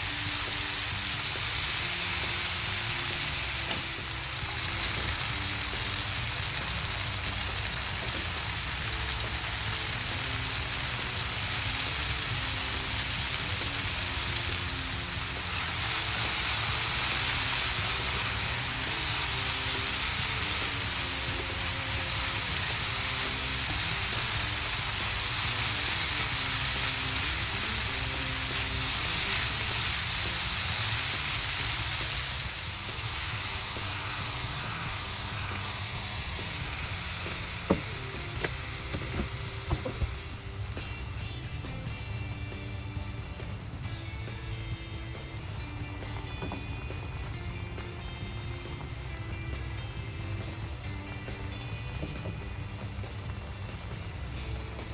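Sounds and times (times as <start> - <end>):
food sizzling in a pan: 0.0 - 54.9.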